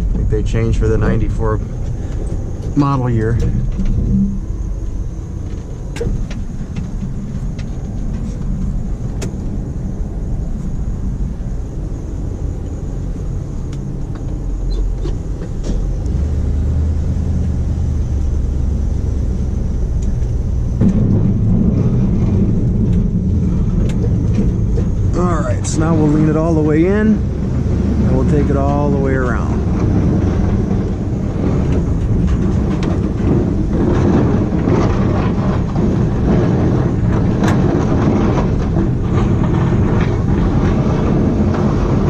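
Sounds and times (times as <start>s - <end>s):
truck engine low rumble: 0.0s - 42.0s.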